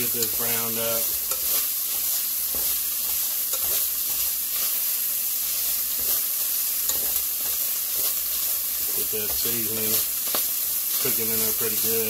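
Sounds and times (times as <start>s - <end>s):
ground beef sizzling: 0.0s - 12.0s.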